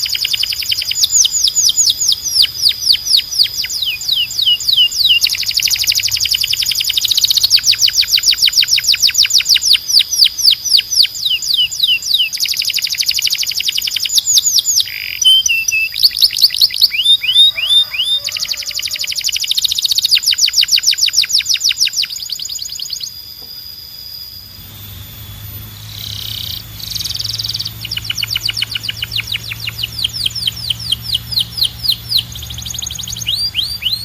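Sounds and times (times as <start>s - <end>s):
canary singing: 0.0s - 34.0s.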